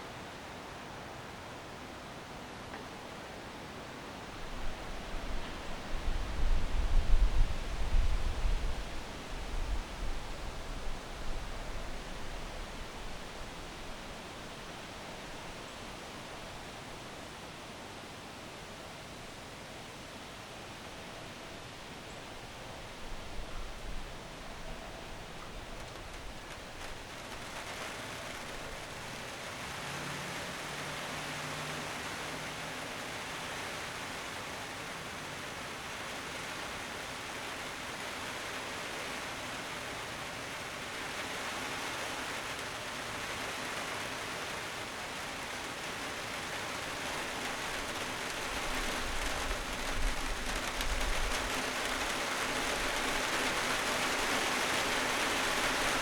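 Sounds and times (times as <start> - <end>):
wind rustling leaves: 0.0 - 56.0.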